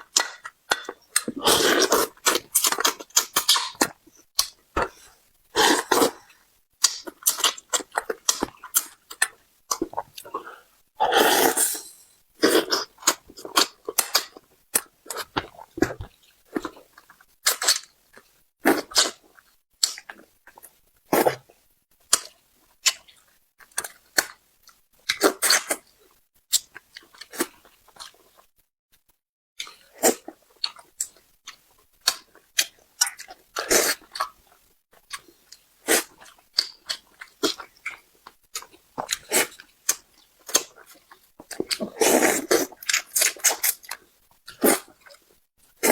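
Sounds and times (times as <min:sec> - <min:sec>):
chewing and mouth sounds: 0:00.0 - 0:25.9, 0:29.6 - 0:45.9.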